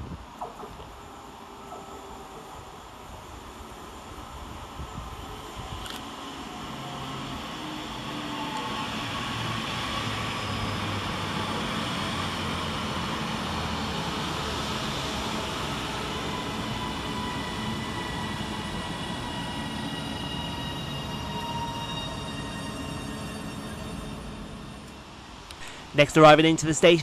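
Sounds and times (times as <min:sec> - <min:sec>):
train rolling and traction noise: 0:00.0 - 0:27.0.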